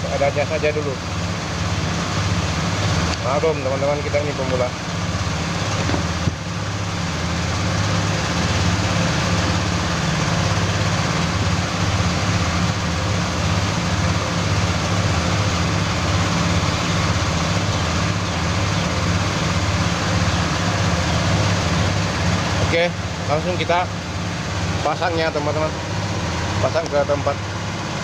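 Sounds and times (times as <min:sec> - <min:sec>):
mechanical hum with pulsing throb: 0:00.0 - 0:28.0.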